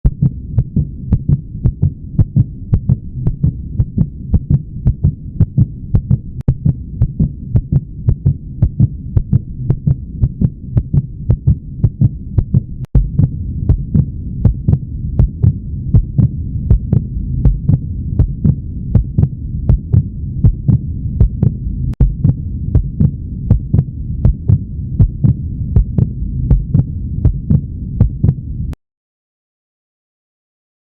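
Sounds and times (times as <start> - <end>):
heartbeat thumps: 0.0 - 28.4
low hum: 0.0 - 28.8.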